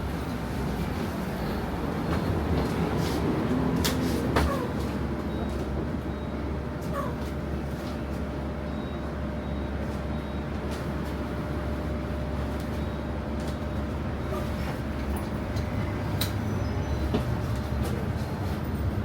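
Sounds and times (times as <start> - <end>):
bus engine low rumble: 0.0 - 19.0.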